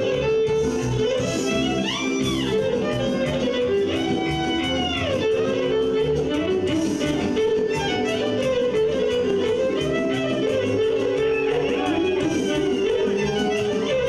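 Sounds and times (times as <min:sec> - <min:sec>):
folk band with accordion: 0:00.0 - 0:14.0.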